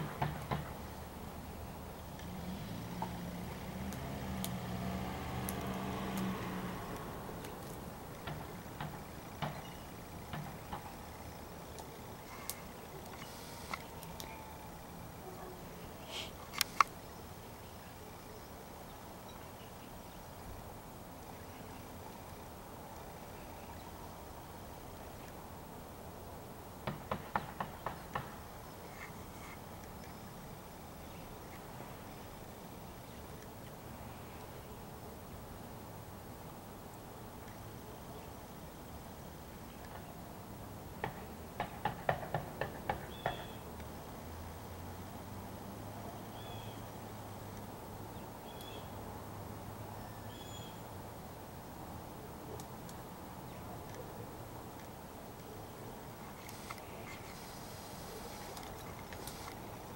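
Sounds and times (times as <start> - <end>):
low outdoor hum: 0.0 - 59.9.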